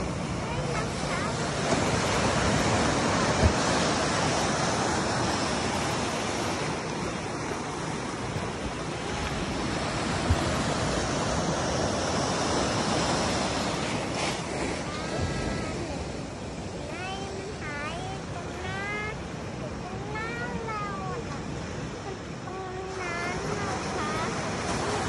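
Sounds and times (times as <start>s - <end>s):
waves breaking against a seawall: 0.0s - 25.0s.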